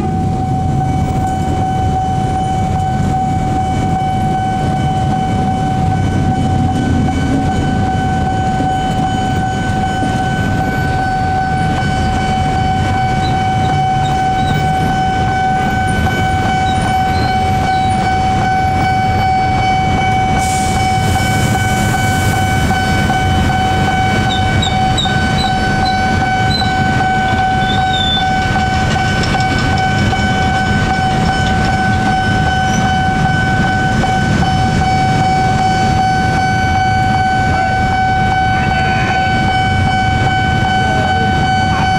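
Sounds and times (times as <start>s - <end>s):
level crossing warning siren: 0.0s - 41.9s.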